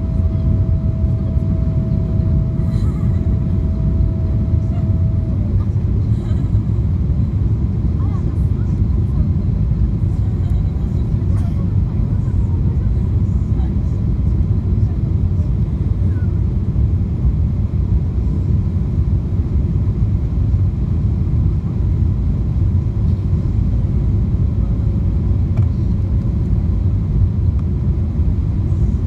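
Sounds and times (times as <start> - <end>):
jet cabin rumble: 0.0 - 29.0.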